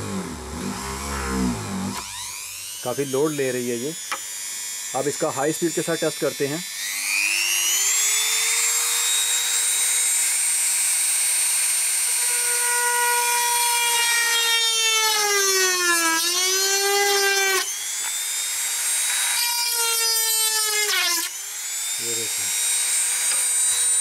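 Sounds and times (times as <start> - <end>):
rotary tool drilling into wood: 0.0 - 24.0.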